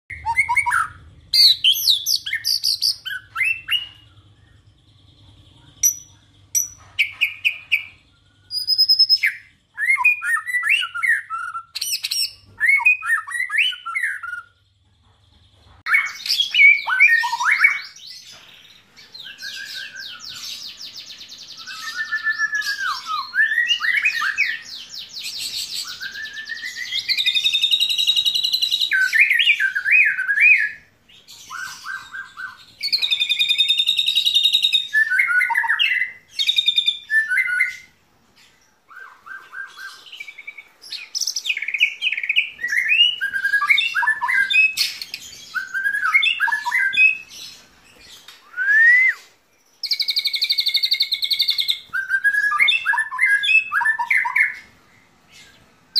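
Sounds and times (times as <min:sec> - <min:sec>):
songbird singing: 0:00.1 - 0:55.9.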